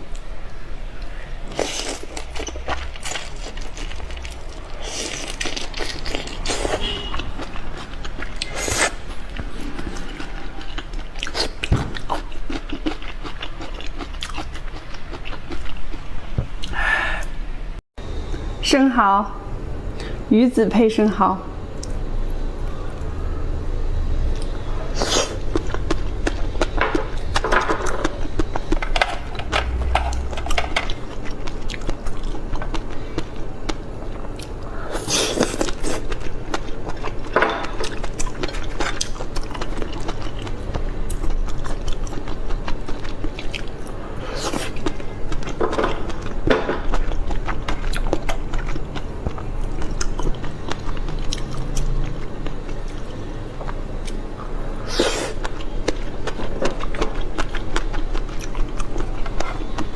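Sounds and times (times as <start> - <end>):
biting and chewing: 1.5 - 16.1, 24.3 - 59.9.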